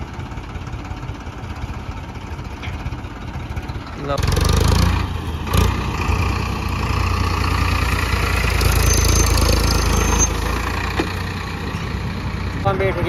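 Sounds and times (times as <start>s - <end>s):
diesel tractor engine rumbling: 0.0s - 13.0s.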